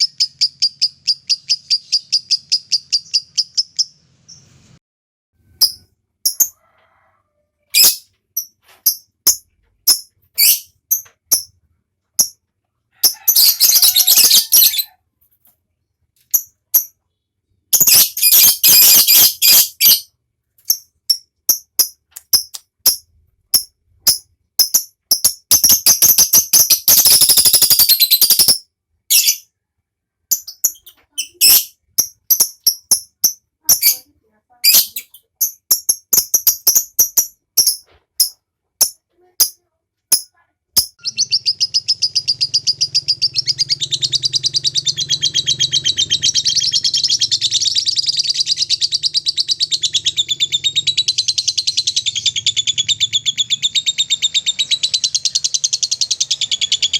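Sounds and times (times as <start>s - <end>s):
lovebird chirping: 0.0s - 4.8s, 5.5s - 6.5s, 7.6s - 11.6s, 13.0s - 15.0s, 16.3s - 29.6s, 30.2s - 39.5s, 40.1s - 56.9s.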